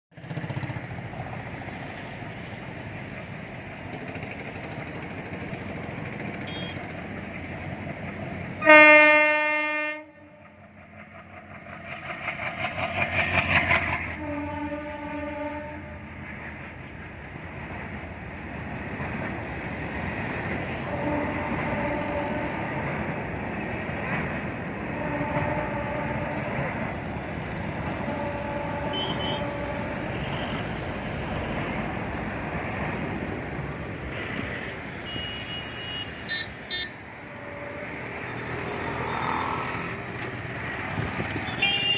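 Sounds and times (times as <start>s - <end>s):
freight train wheels rattling: 0.2s - 8.7s, 10.2s - 35.1s, 36.2s - 41.9s.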